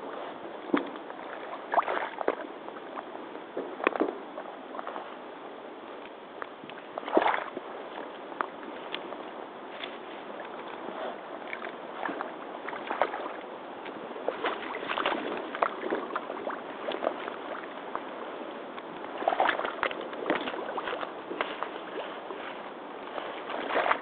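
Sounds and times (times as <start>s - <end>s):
water sloshing and splashing: 0.0s - 5.2s, 6.4s - 24.0s
boots wading through water: 0.0s - 5.3s, 6.0s - 24.0s.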